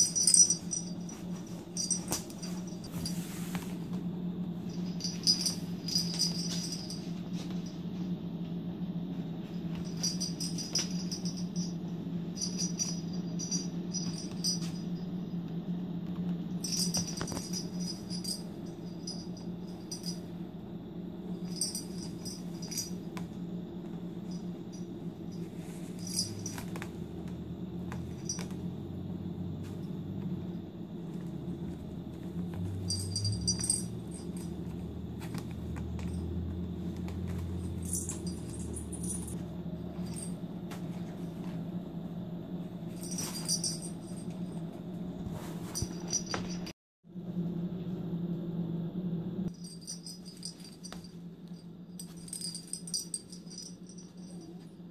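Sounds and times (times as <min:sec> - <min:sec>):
small bell jingling: 0:00.0 - 0:03.6, 0:04.6 - 0:07.9, 0:09.6 - 0:15.2, 0:16.5 - 0:20.4, 0:21.2 - 0:41.0, 0:42.9 - 0:44.7, 0:45.7 - 0:46.8, 0:49.5 - 0:54.8
steady low hum: 0:00.0 - 0:54.9.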